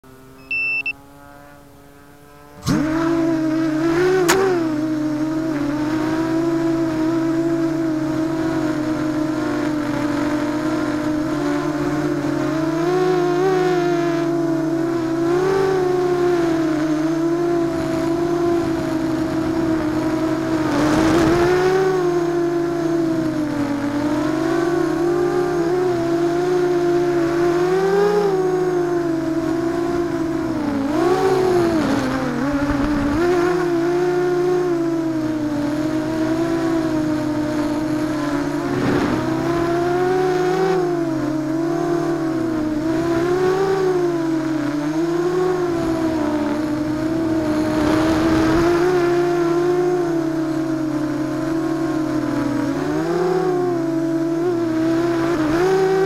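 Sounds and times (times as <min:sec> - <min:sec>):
drone motors buzzing whine: 0:00.0 - 0:56.0.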